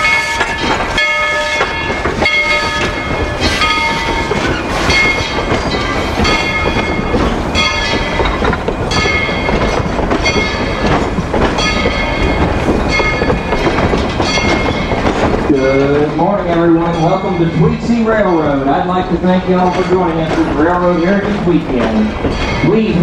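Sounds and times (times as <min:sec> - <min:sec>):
train rumbling along track: 0:00.0 - 0:23.0
wheels clattering over rails: 0:00.0 - 0:23.0.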